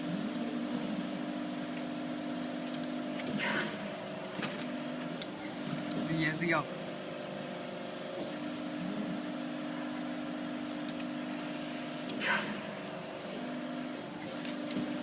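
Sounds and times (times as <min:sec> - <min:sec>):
press machine humming: 0:00.0 - 0:15.0.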